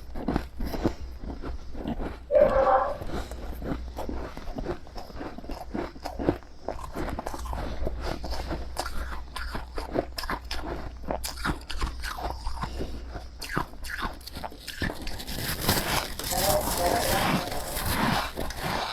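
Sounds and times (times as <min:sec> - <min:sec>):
chewing crunchy frost: 0:00.0 - 0:18.9.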